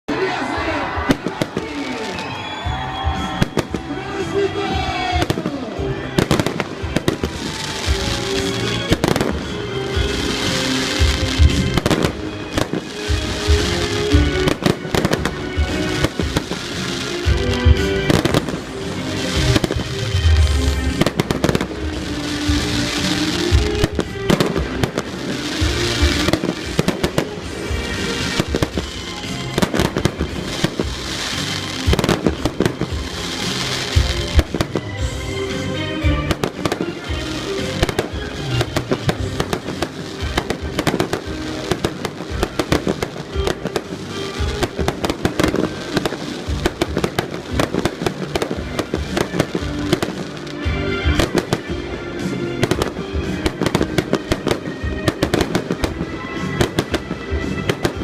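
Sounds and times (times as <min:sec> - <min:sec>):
fireworks bangs and crackles: 0:00.1 - 0:58.0
music with steady tones: 0:00.2 - 0:58.0.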